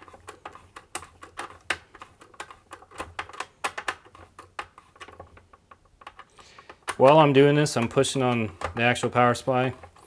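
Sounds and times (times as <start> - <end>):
screwdriver clicking and tapping: 0.0 - 8.9.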